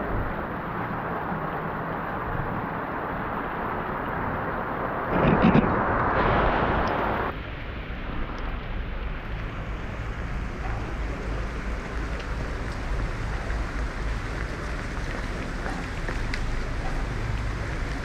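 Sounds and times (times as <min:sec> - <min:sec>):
heavy rain on a street: 0:00.0 - 0:18.0
wind rumble on microphone: 0:00.0 - 0:18.0.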